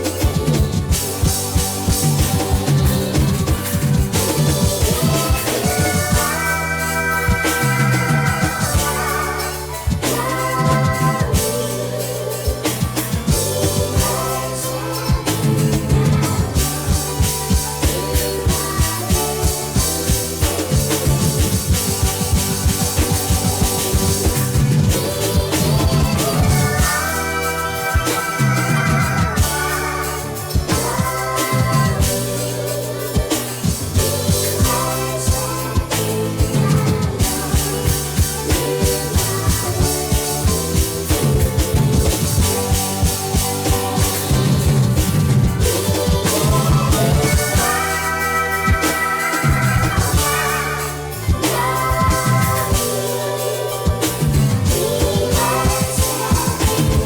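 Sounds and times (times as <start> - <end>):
bass: 0.0 - 57.0
drum kit beat: 0.0 - 57.0
live band music: 0.0 - 57.0
sustained keyboard chords: 0.0 - 57.0.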